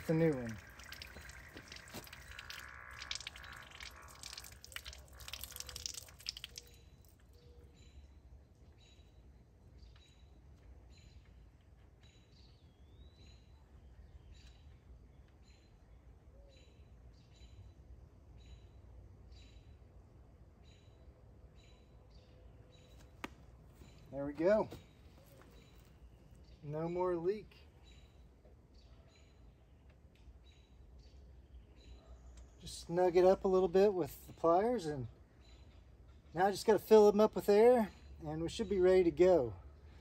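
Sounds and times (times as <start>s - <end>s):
bird chirping: 0.0s - 19.9s, 20.6s - 40.0s.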